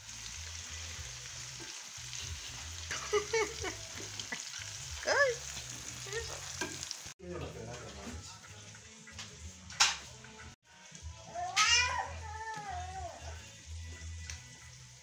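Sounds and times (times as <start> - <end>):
deep-frying sizzle in oil: 0.0 - 10.0, 10.9 - 15.0.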